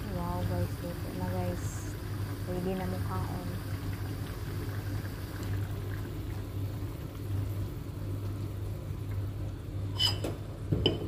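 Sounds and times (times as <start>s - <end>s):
broth bubbling at a boil: 0.0s - 11.0s.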